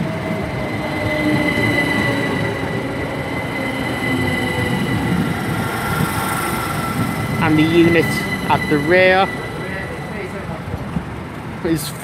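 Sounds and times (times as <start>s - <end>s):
train electrical whine: 0.0s - 12.0s
train wheel rumble: 0.0s - 12.0s.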